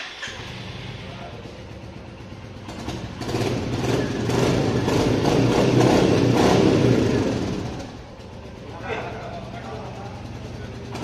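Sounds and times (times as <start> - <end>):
motorcycle engine running: 0.3 - 11.0.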